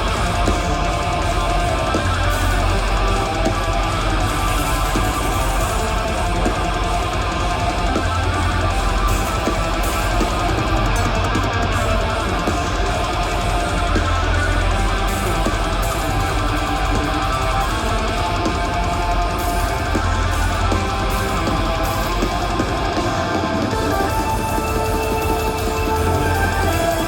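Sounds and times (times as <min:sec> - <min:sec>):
death metal band playing: 0:00.0 - 0:27.0.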